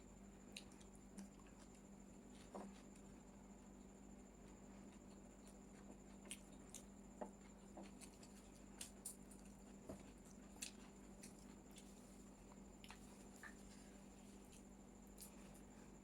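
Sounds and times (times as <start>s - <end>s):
steady low hum: 0.0s - 16.0s
soft chewing clicks and squishes: 0.2s - 16.0s.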